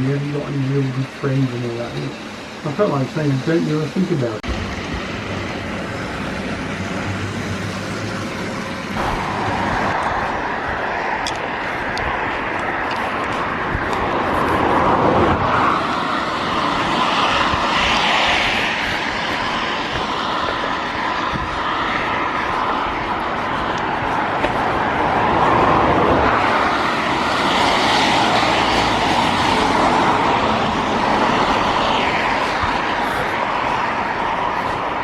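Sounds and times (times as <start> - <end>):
vehicle running rumble: 0.0 - 35.0.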